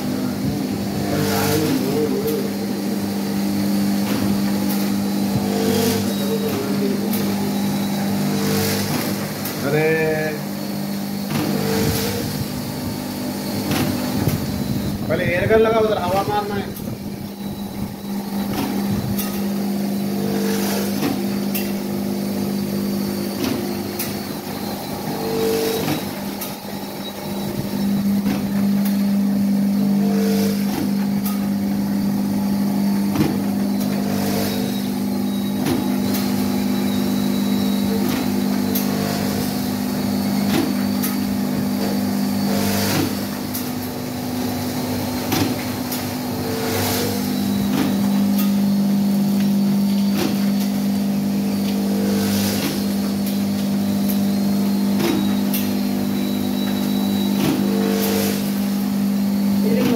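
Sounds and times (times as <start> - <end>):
packing machine humming: 0.0 - 59.9.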